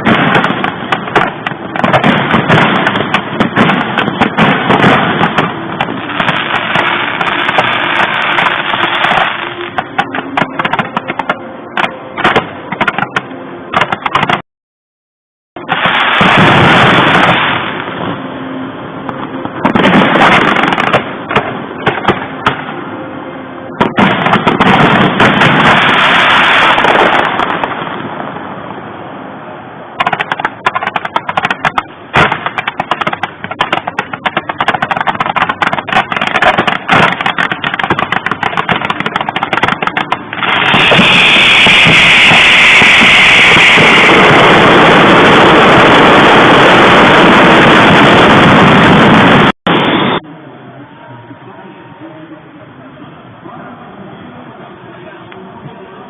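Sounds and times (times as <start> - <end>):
fireworks crackling and popping: 0.0 - 14.4, 15.6 - 18.2, 19.1 - 22.8, 23.8 - 28.7, 30.0 - 50.2
loud firework bursts: 0.0 - 14.4, 15.6 - 18.2, 19.5 - 22.8, 23.8 - 28.8, 30.0 - 50.2.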